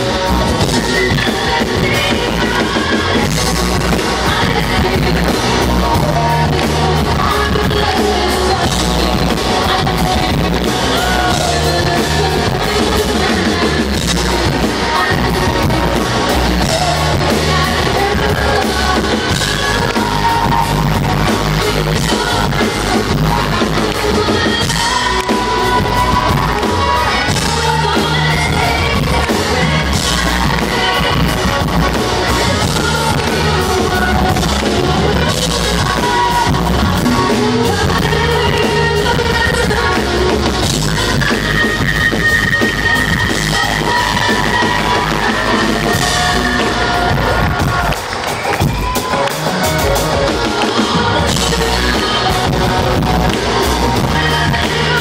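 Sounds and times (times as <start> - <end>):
woman singing into microphone: 0.0 - 47.9, 50.2 - 55.0
rock band playing: 0.0 - 55.0.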